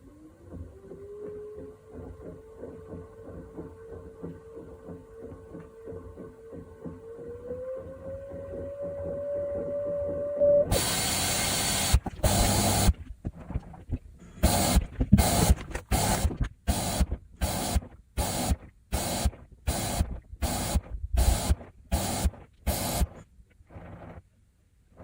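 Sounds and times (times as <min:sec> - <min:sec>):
washing machine noise bursts: 0:00.6 - 0:23.2
washing machine rushing noise: 0:00.6 - 0:24.0.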